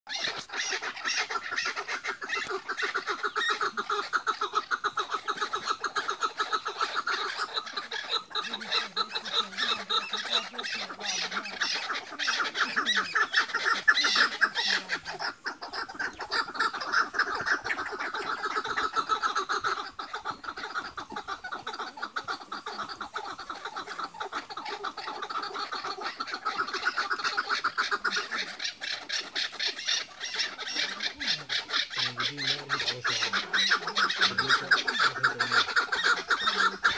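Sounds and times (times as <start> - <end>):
partridges chuckling calls: 0.1 - 36.9.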